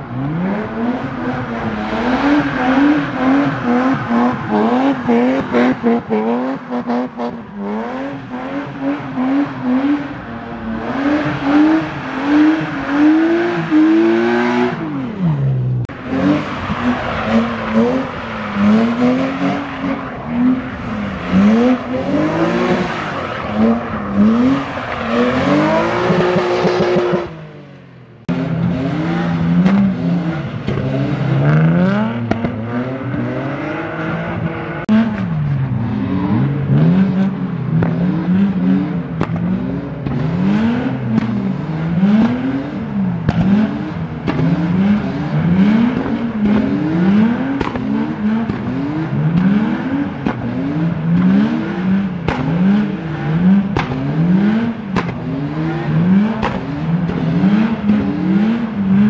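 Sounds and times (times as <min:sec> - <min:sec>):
car engine revving hard: 0:00.0 - 0:27.5, 0:28.2 - 0:59.0.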